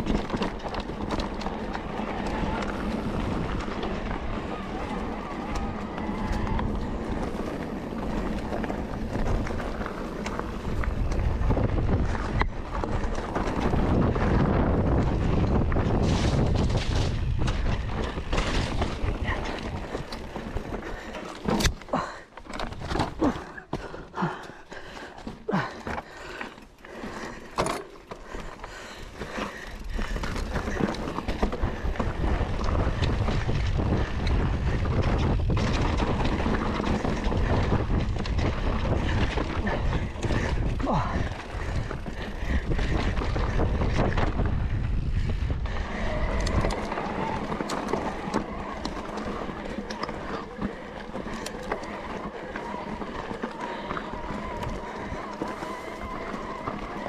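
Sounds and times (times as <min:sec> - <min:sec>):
wind rushing over microphone: 0:00.0 - 0:20.9, 0:29.8 - 0:57.0
bike rattling over rough ground: 0:00.0 - 0:57.0.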